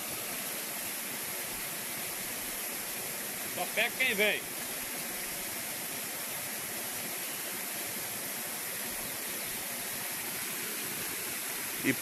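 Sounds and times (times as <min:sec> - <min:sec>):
water hiss: 0:00.0 - 0:12.0.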